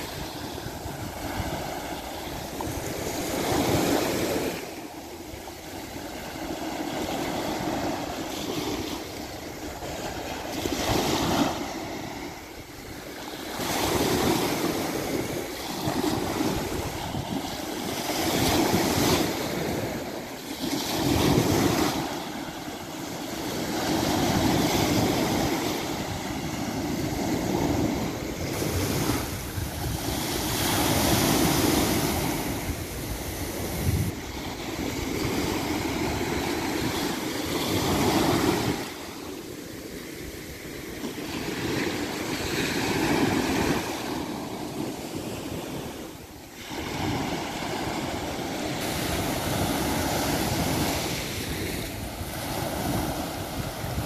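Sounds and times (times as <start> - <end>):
small waves washing up a beach: 0.0 - 54.0.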